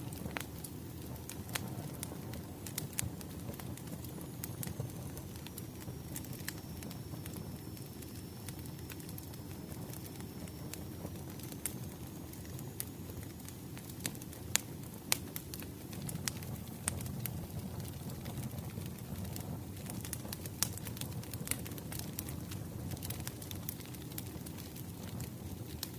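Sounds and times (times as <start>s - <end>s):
burning logs crackling and popping: 0.0s - 25.9s
fire flames rumbling: 0.0s - 25.9s.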